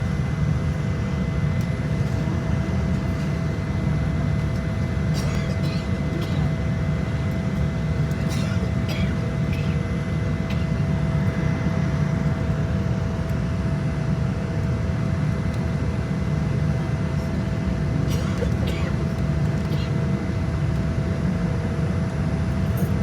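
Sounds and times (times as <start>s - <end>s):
airplane engines droning: 0.0s - 23.0s.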